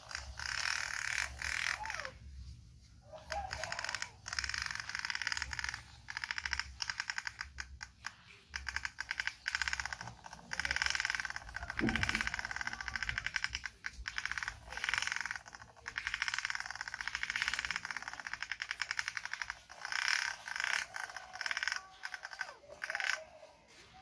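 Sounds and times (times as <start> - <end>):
toy truck wheels clattering: 0.0 - 24.0.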